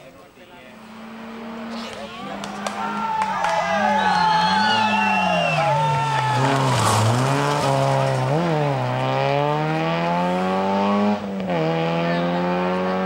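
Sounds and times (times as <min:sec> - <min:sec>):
rally car engine revving: 0:00.2 - 0:13.0.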